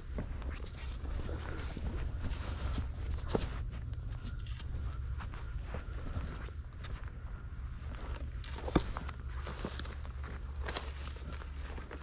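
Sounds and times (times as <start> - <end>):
footsteps on rough ground: 0.0 - 12.0
steady low rumble: 0.0 - 12.0.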